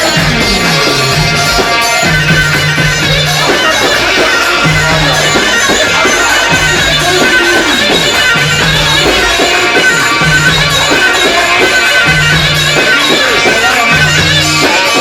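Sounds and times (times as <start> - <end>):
held bass notes: 0.0 - 14.8
reedy wind instrument melody: 0.0 - 15.0.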